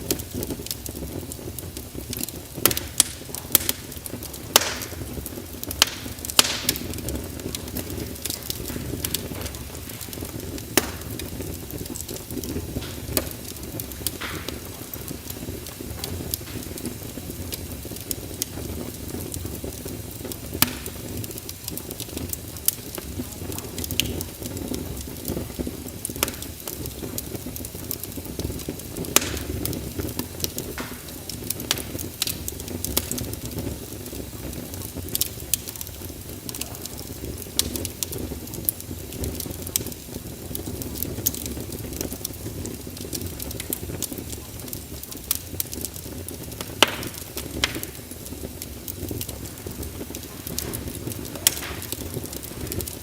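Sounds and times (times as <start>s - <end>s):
fire burning in a fireplace: 0.0s - 53.0s
fire crackles and pops: 0.0s - 53.0s.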